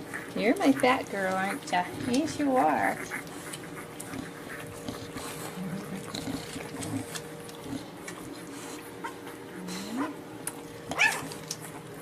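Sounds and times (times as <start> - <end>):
faint steady hum: 0.0 - 12.0
puppies suckling: 0.0 - 12.0.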